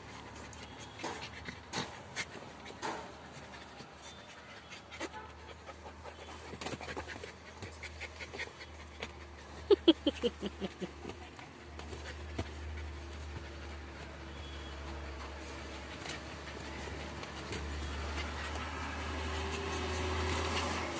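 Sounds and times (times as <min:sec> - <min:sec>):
puppies panting: 0:00.0 - 0:20.9.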